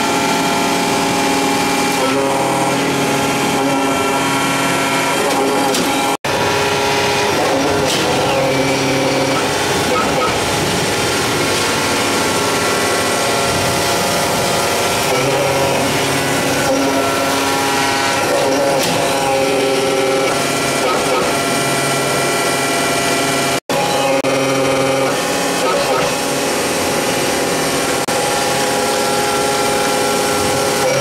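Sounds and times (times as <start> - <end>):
machine whining tones: 0.0 - 31.0
press machine hum: 0.0 - 31.0.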